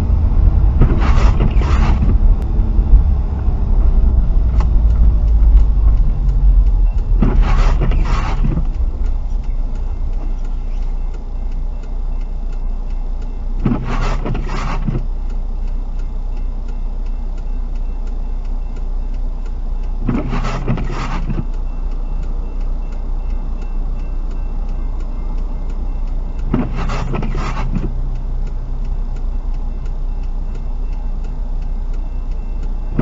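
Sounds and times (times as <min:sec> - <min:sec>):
car engine and road rumble: 0:00.0 - 0:33.0
windshield wipers sweeping: 0:00.0 - 0:33.0.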